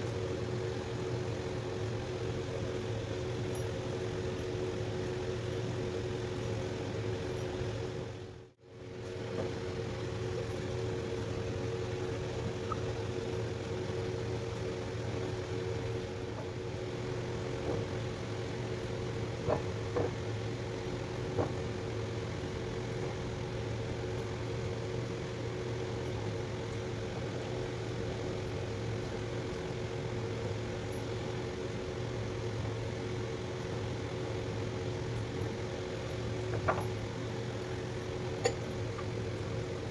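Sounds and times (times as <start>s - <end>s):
machine hum with two tones: 0.0s - 39.9s.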